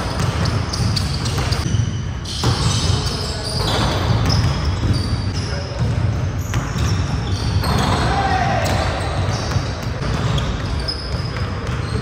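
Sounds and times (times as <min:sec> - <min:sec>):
basketballs bouncing on wooden floor: 0:00.0 - 0:12.0.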